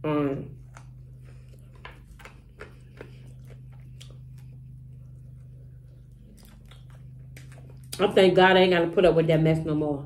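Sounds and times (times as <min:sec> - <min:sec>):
steady low hum: 0:00.0 - 0:10.0
chewing with crunches: 0:00.2 - 0:08.4.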